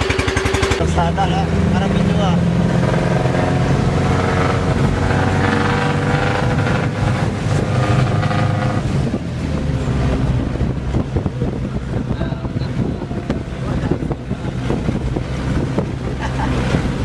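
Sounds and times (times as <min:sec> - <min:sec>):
engine drone: 0:00.0 - 0:17.0
wind rushing through windows: 0:01.6 - 0:17.0.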